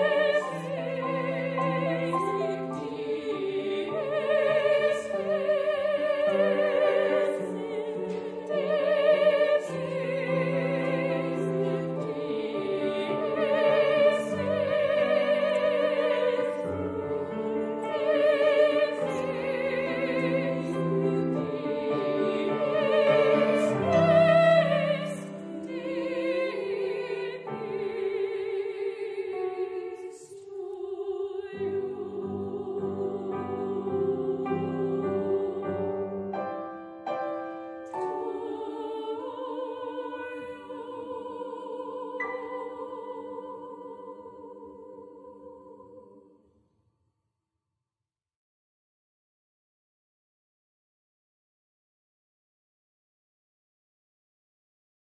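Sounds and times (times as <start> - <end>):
women's choir singing in harmony: 0.0 - 46.6.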